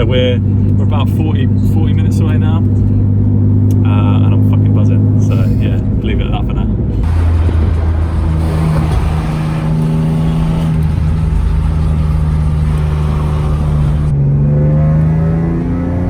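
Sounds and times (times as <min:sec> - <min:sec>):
car engine: 0:00.0 - 0:16.0
road noise: 0:00.0 - 0:16.0.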